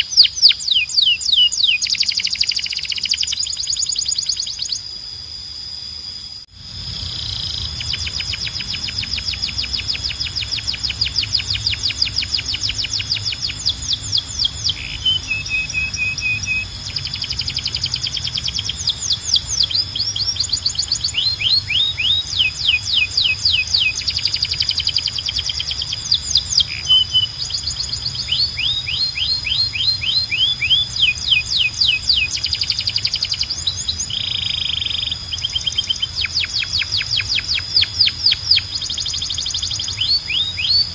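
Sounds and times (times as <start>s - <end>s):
canary singing trills: 0.0s - 5.2s, 6.2s - 40.9s.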